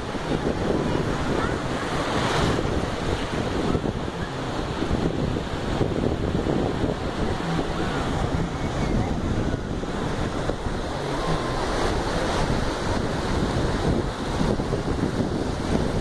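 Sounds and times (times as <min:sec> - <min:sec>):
surf breaking and washing in: 0:00.0 - 0:16.0
wind buffeting microphone: 0:00.0 - 0:16.0.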